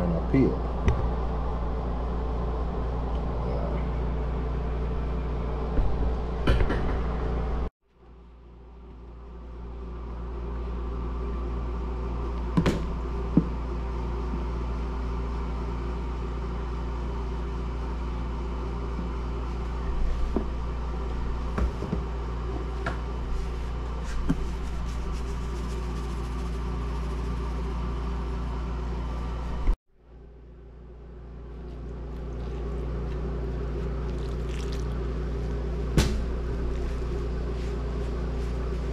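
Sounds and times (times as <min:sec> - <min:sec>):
induction cooktop hum: 0:00.0 - 0:38.9.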